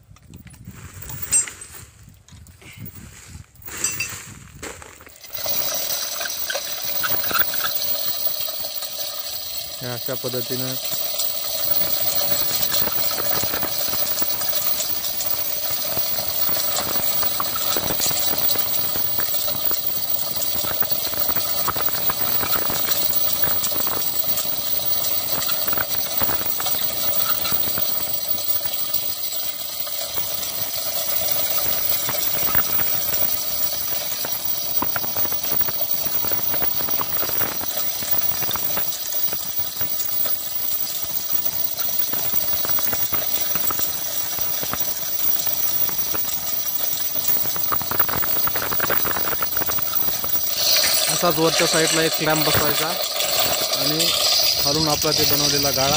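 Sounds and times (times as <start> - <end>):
chain rattling through chain block: 0.9 - 1.7, 5.1 - 55.9.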